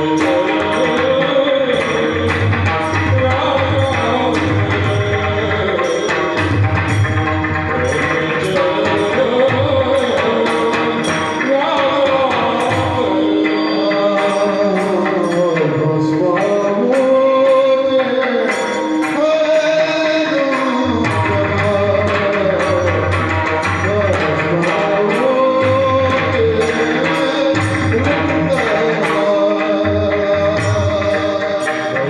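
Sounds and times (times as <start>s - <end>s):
jingling percussion: 0.0s - 32.0s
man singing devotional song: 0.0s - 32.0s.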